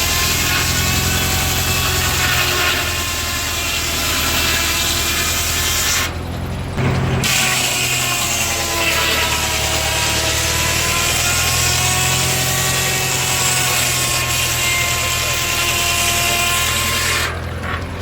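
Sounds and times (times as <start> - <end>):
engine running: 0.0 - 18.0
saw cutting wood: 0.0 - 18.0.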